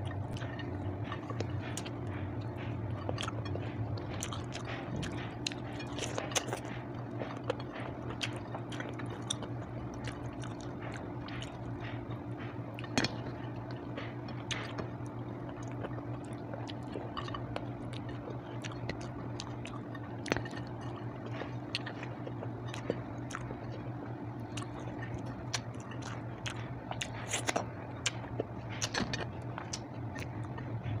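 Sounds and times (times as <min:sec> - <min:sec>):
chewing and wet mouth sounds: 0:00.0 - 0:31.0
steady low hum: 0:00.0 - 0:31.0.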